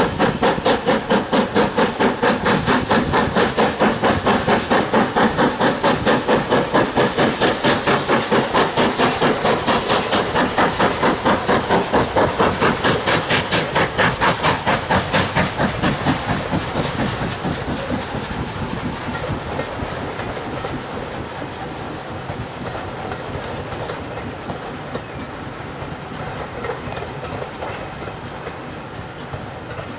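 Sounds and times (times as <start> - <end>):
steam locomotive exhaust beats: 0.0 - 29.9.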